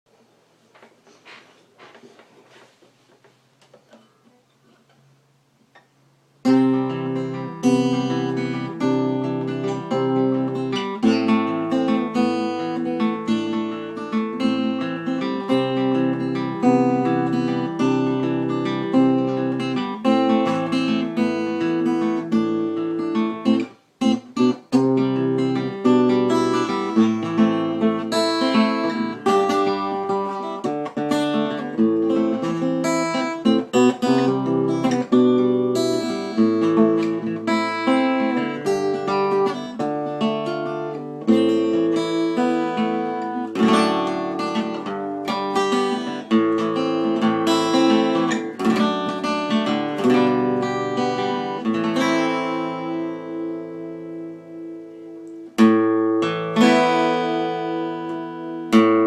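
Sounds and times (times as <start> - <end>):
acoustic guitar chords: 3.6 - 59.0.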